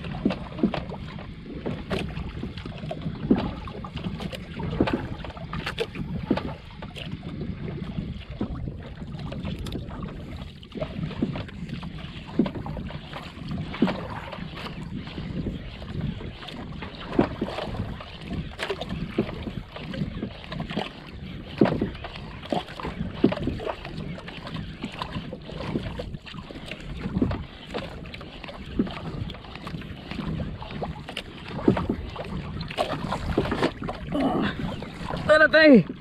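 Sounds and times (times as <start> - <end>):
water sloshing against hull: 0.0 - 36.0
wind buffeting microphone: 0.0 - 36.0.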